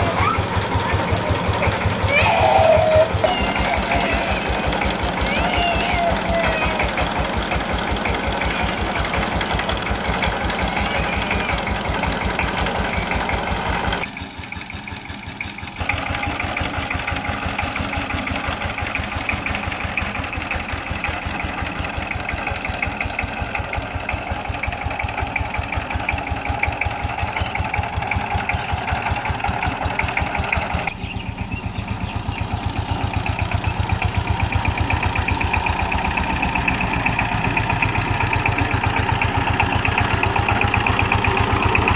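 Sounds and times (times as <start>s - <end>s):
diesel engine chugging: 0.0s - 41.9s.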